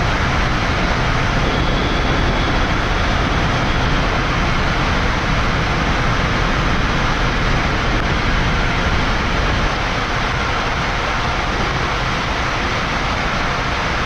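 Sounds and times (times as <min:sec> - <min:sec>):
airflow and engine noise: 0:00.0 - 0:14.0.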